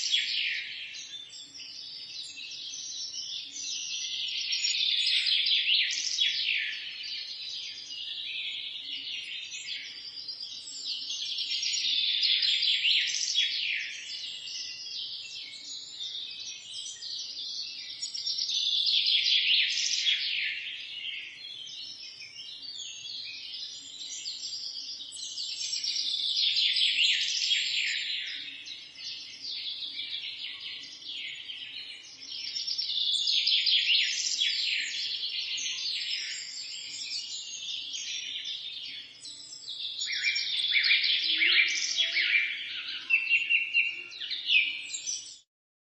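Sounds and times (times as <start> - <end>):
birds chirping in chorus: 0.0 - 45.5.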